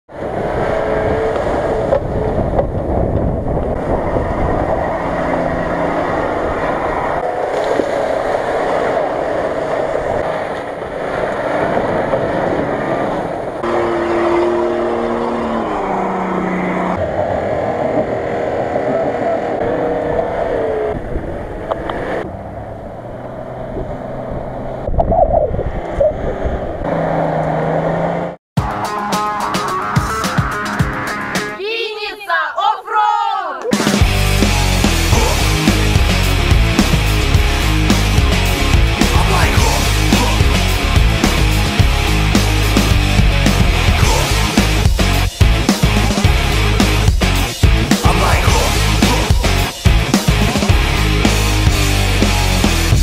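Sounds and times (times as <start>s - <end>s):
rising and falling pitched tones: 0.2s - 10.6s, 12.6s - 28.4s, 33.7s - 53.0s.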